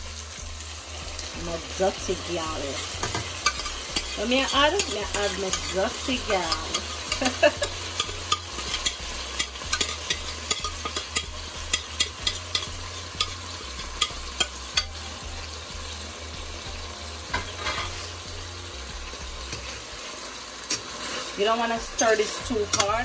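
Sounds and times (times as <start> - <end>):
fish sizzling in hot oil: 0.0 - 23.0.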